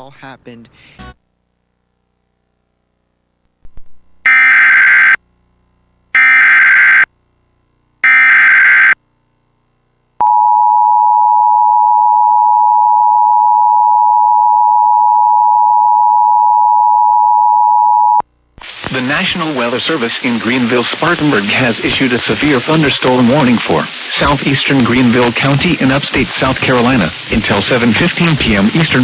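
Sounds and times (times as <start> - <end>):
steady dual tone: 1.8 - 29.0.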